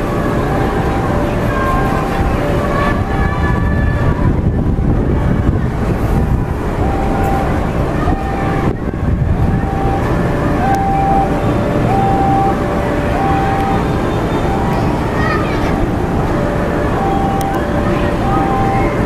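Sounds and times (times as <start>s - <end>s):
loud wind: 0.0s - 19.0s
street noise: 0.0s - 19.0s
two-tone crossing alarm: 0.0s - 19.0s.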